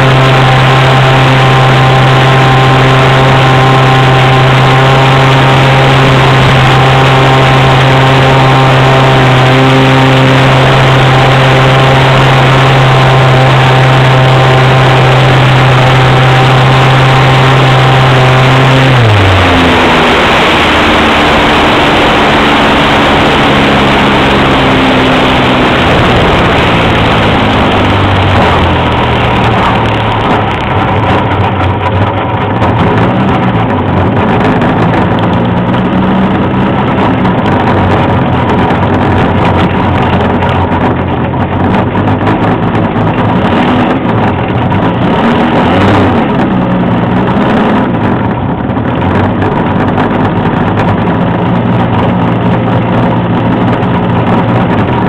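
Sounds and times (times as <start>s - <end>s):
model airplane engine: 0.0s - 55.0s
rushing air: 0.0s - 55.0s.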